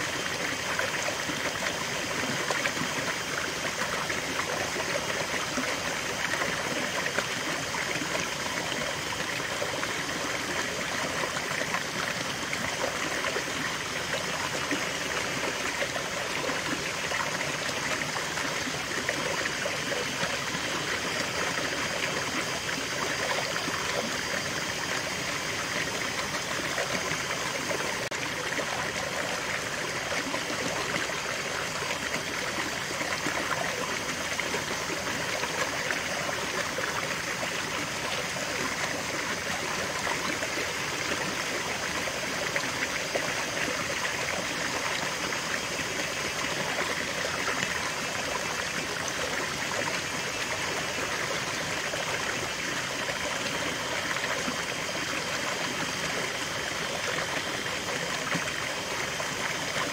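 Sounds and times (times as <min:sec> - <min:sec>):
stream water splashing over rocks: 0:00.0 - 0:59.9.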